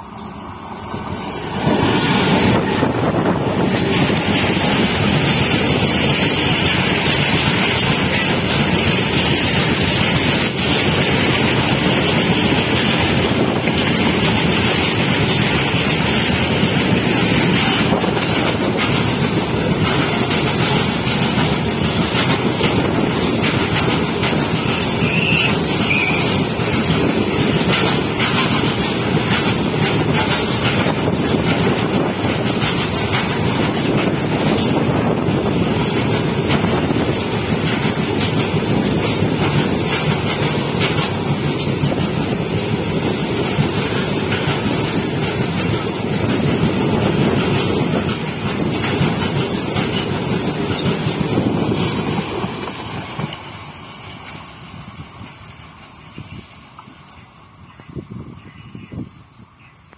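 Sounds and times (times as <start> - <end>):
steel wheels rushing on rail: 0.0 - 59.9
wheels clicking over track: 1.6 - 55.3.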